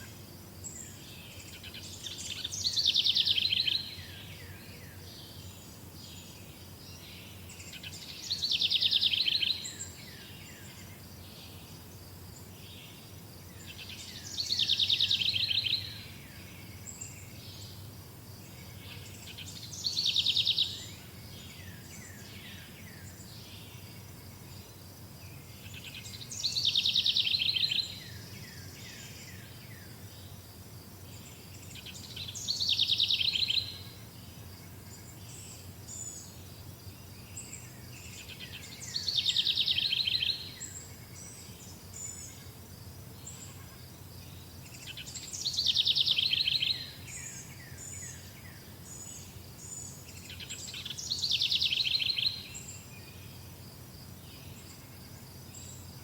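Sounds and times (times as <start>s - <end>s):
low background noise: 0.0s - 56.0s.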